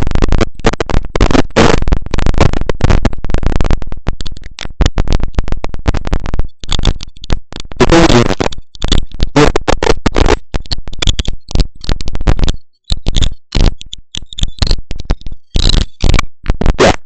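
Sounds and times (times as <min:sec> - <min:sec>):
crackling microphone static: 0:00.0 - 0:17.0.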